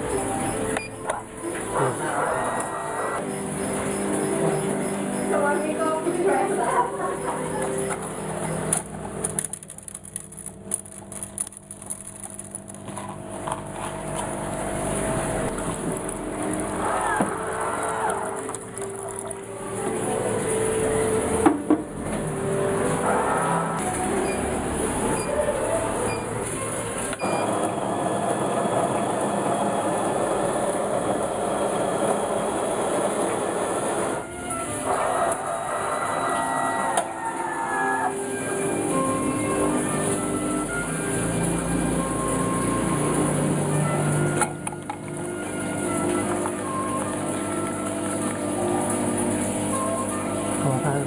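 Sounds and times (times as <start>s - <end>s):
machine motor humming: 0.0s - 51.0s.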